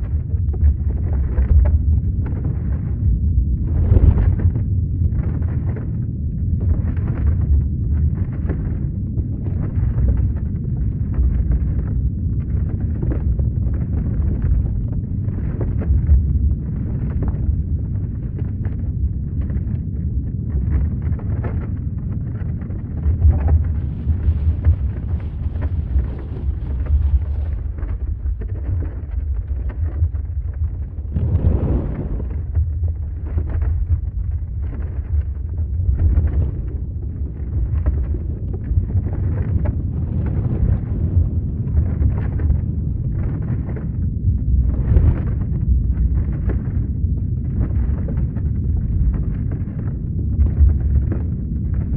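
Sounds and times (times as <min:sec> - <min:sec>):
crackles and rattles: 0:00.0 - 0:51.9
deep earthquake rumble: 0:00.0 - 0:51.9.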